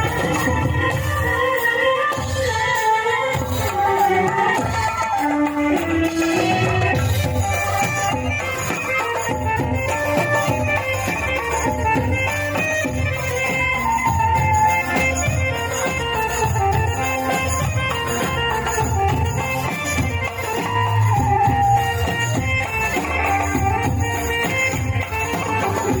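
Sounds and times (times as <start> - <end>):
busy percussion beat: 0.0 - 26.0.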